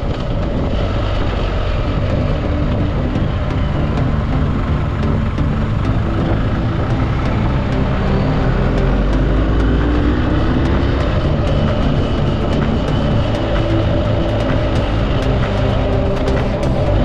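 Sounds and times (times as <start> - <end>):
vehicle engine accelerating: 0.0 - 17.0
wind and road noise: 0.0 - 17.0.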